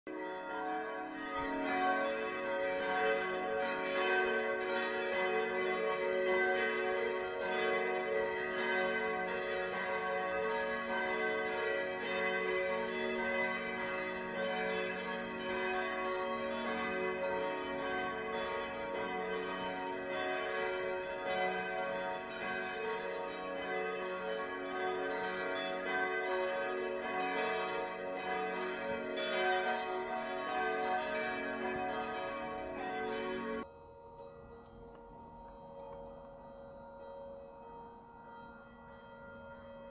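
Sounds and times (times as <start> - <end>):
church bells ringing: 0.1 - 39.9.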